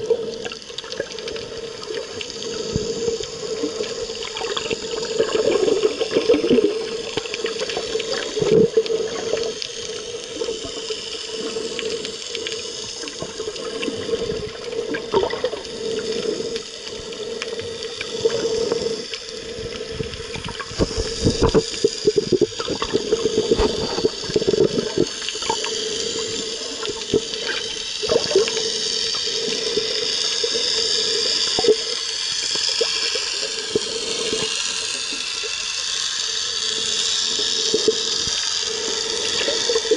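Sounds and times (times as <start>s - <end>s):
steady humming tone: 0.0s - 39.9s
water churning and bubbling: 0.0s - 39.9s.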